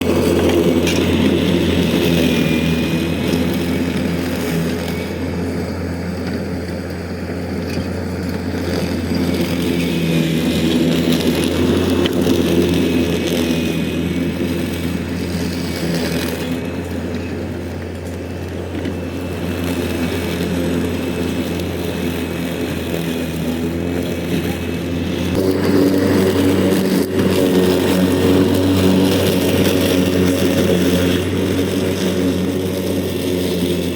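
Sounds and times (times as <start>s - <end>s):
mower engine running: 0.0s - 33.9s.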